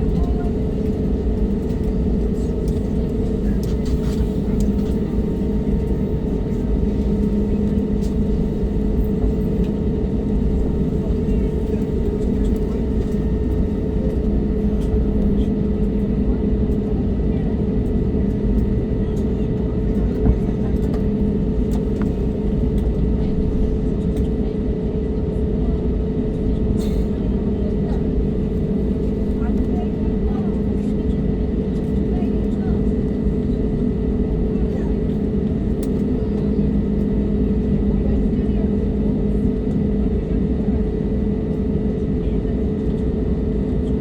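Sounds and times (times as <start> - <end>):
airliner cabin rumble: 0.0 - 44.0
constant hums: 0.0 - 44.0.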